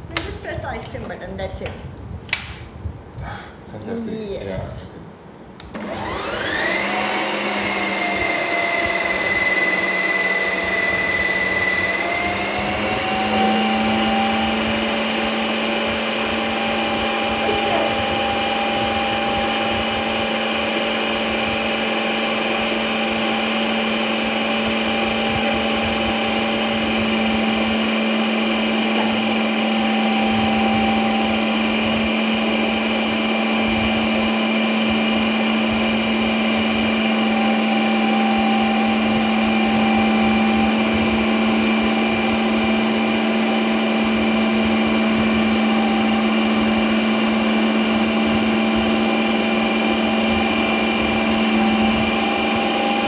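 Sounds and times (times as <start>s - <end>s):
ice cream maker motor whirring: 5.6s - 53.0s.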